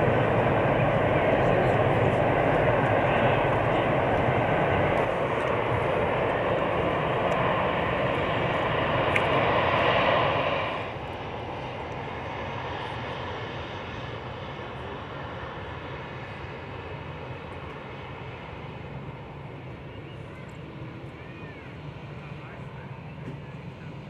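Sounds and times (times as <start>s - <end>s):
jet engines at takeoff power: 0.0s - 24.0s.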